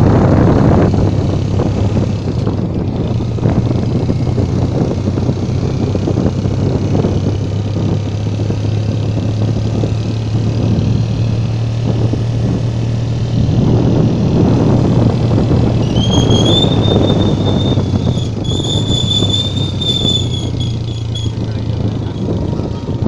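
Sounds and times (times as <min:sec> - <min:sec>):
tyre and wind noise: 0:00.0 - 0:23.0
vehicle engine drone: 0:00.0 - 0:23.0.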